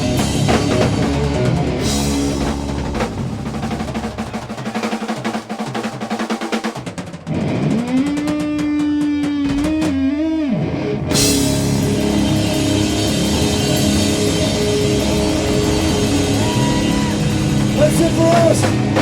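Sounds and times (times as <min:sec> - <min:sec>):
drums and cymbals crashing: 0:00.0 - 0:10.3, 0:11.1 - 0:19.0.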